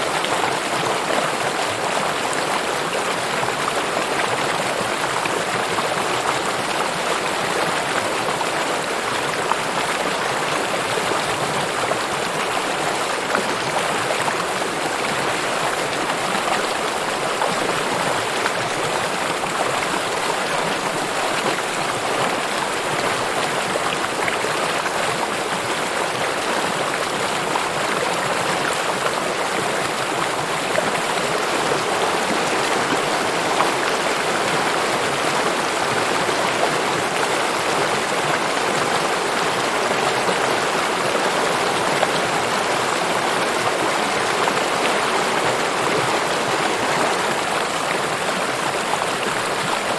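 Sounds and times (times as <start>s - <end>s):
river water babbling: 0.0s - 49.9s.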